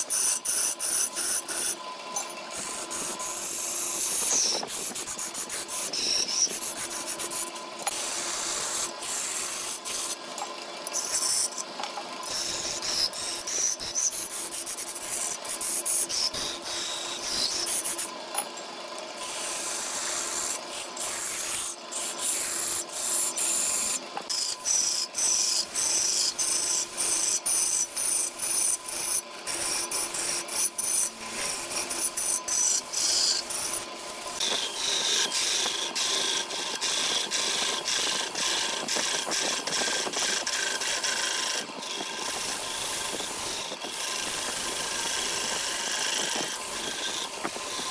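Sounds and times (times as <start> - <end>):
hand sanding on a lathe: 2.5 - 10.2, 11.0 - 11.6, 12.2 - 18.1, 19.2 - 47.9.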